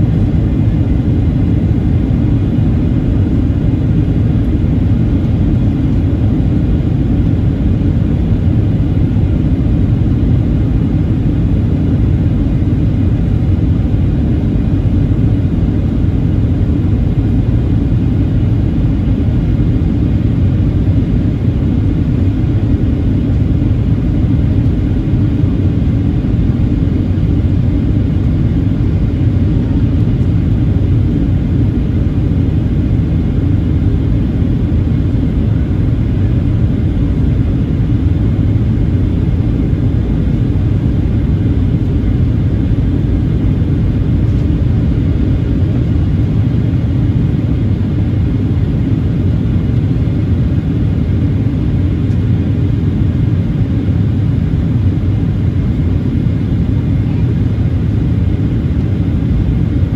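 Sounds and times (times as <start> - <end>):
aircraft cabin engine rumble: 0.0 - 59.9
airflow over fuselage: 0.0 - 59.9.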